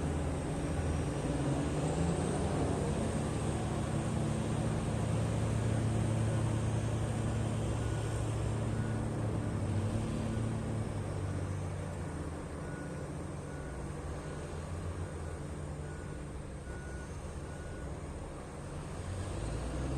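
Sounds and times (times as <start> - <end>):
large diesel engine humming: 0.0 - 19.9.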